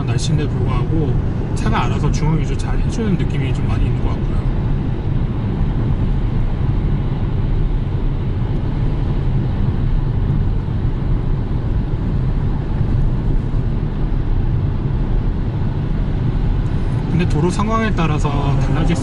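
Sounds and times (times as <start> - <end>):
road and tyre rumble: 0.0 - 19.0
wind noise: 0.0 - 19.0.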